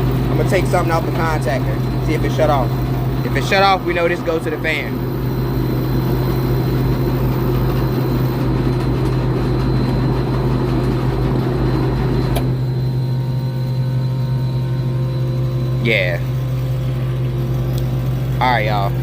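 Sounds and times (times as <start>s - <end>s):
electrical hum: 0.0s - 19.0s
rough condenser fan motor noise: 0.0s - 19.0s.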